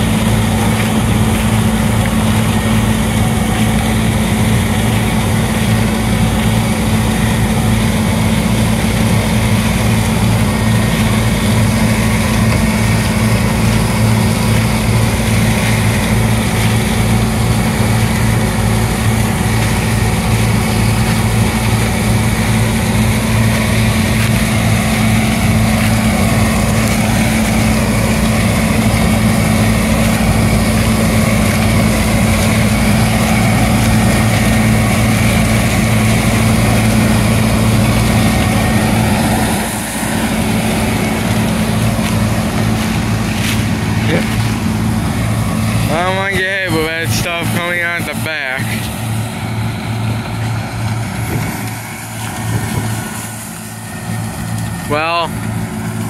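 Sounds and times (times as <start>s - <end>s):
combine harvester running: 0.0s - 56.0s
constant low hum: 0.0s - 56.0s.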